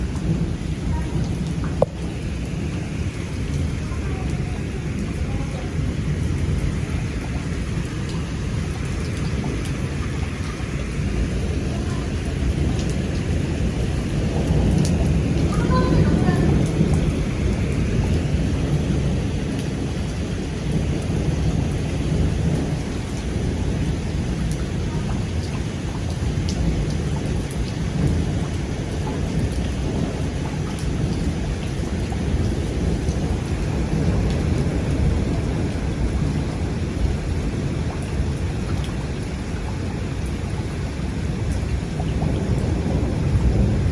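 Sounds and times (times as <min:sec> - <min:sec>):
heavy rain pouring: 0:00.0 - 0:43.9
rumbling thunder: 0:00.0 - 0:43.9.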